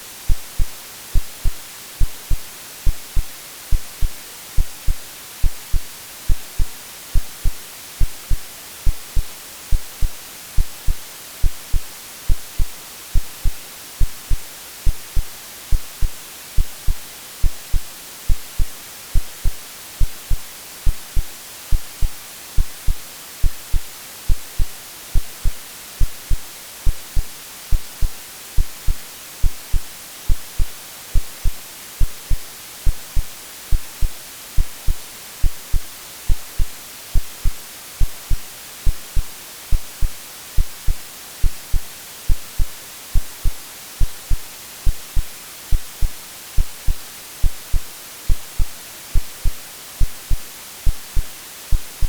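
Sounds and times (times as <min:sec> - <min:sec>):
white noise hiss: 0:00.0 - 0:52.0
heartbeat thumps: 0:00.3 - 0:52.0.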